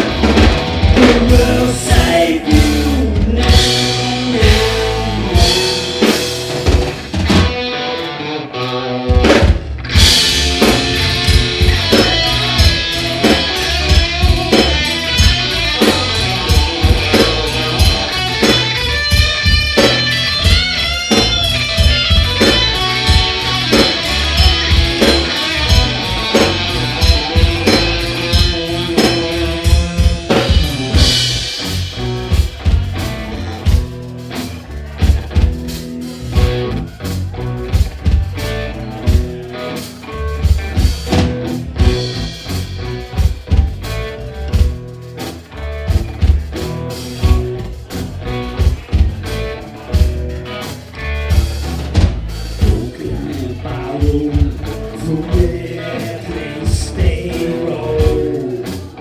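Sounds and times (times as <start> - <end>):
electric guitar bending notes: 0.0 - 59.0
live rock band playing: 0.0 - 59.0.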